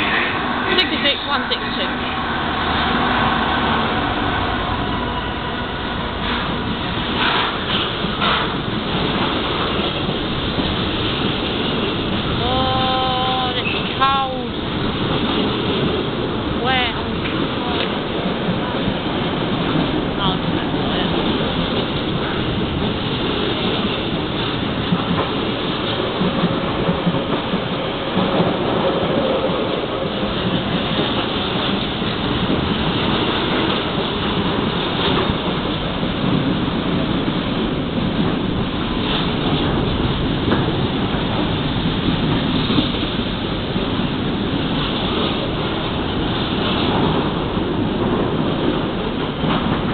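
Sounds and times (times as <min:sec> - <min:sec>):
freight train wheels rumbling on rails: 0:00.0 - 0:49.9.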